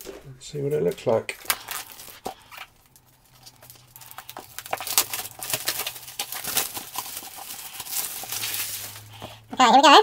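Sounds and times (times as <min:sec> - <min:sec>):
plastic shrink-wrap crinkling and tearing: 0:00.8 - 0:09.2.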